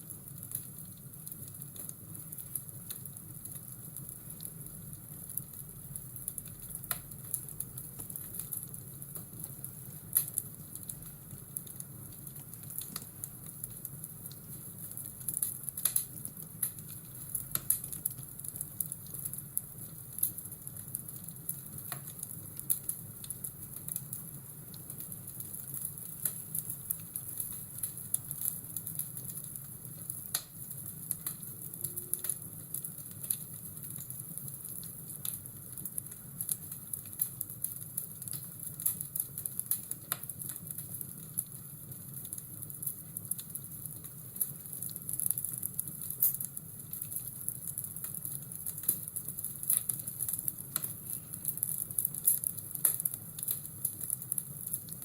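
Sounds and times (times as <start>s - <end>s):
low rumble and hiss of fire: 0.0s - 55.0s
sharp pops and snaps of fire: 0.0s - 55.0s
wood fire crackling: 0.0s - 55.0s.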